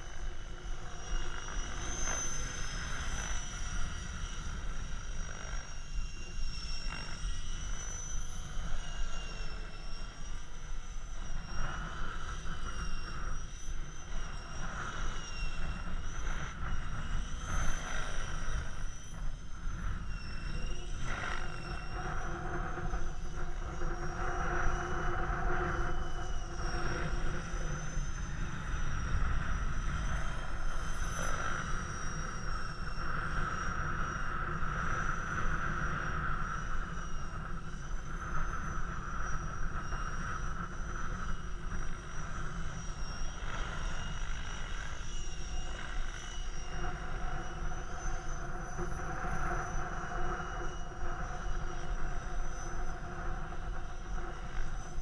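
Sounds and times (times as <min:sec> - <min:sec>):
rc helicopter motor whine: 0:00.0 - 0:55.0
wind rumbling on microphone: 0:00.0 - 0:55.0.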